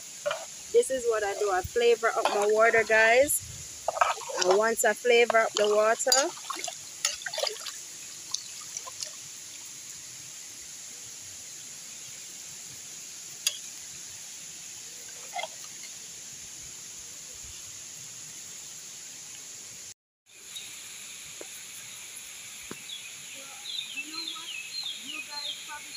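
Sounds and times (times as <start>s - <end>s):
high-pitched insect chorus: 0.0s - 25.9s.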